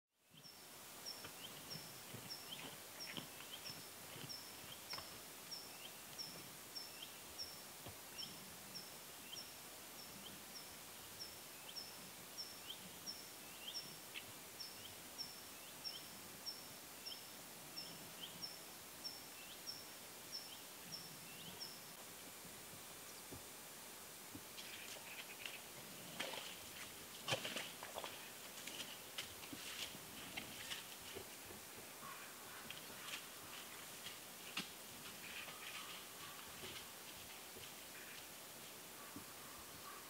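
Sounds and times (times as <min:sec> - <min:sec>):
faint forest hiss: 0:00.1 - 0:40.0.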